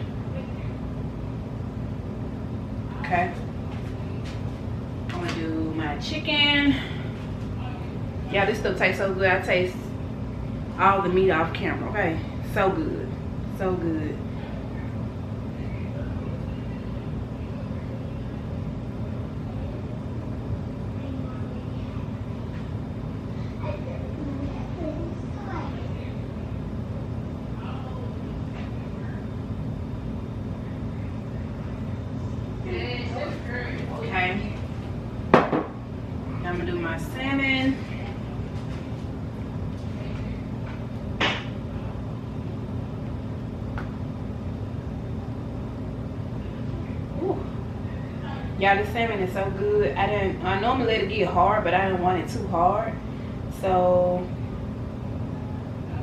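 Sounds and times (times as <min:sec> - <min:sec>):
machinery low rumbling hum: 0:00.0 - 0:56.0.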